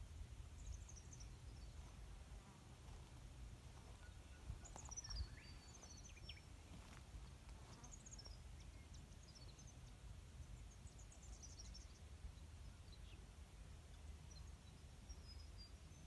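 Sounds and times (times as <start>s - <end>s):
small birds chirping: 0.5s - 16.0s.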